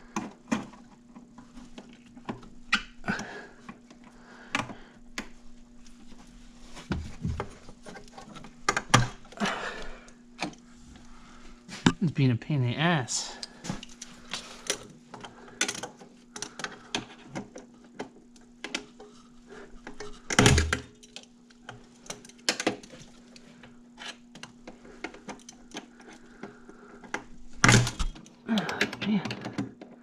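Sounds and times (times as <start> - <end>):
steady low hum: 0.0 - 29.6.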